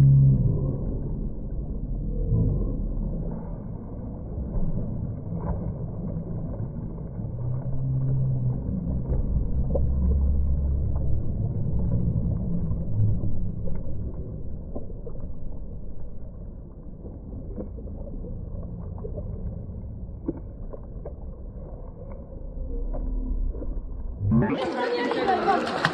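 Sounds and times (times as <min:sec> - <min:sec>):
muffled pool water splashing: 0:00.0 - 0:25.9.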